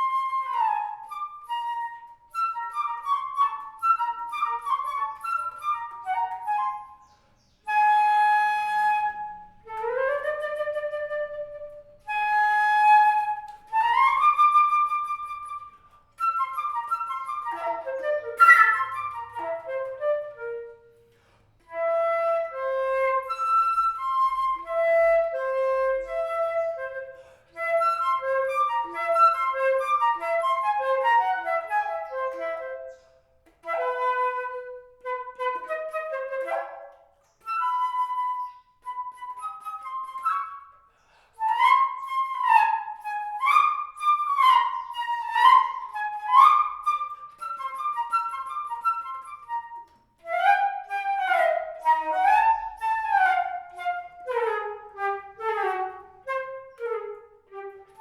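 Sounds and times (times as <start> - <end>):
solo flute melody: 0.0 - 58.0.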